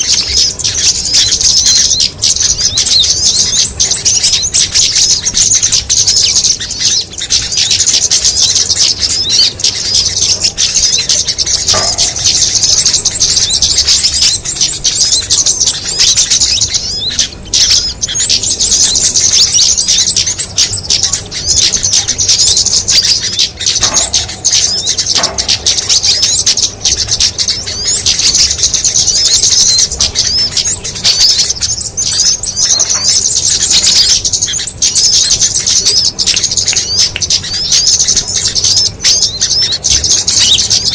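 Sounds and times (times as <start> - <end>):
rapid high-pitched bird chirps: 0.0 - 40.9.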